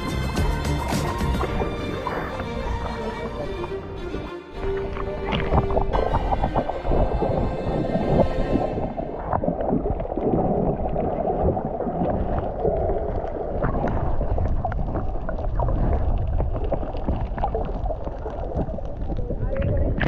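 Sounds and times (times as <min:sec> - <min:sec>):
muffled water sloshing and bubbling: 0:00.0 - 0:20.0.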